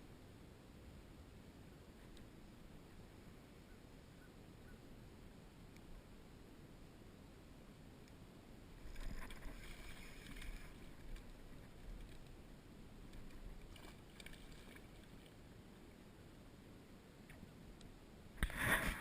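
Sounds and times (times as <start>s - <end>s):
faint water noises: 0.4s - 19.0s.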